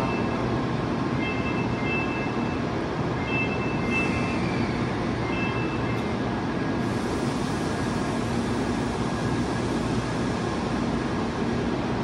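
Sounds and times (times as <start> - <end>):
train equipment hum and whir: 0.0 - 12.0.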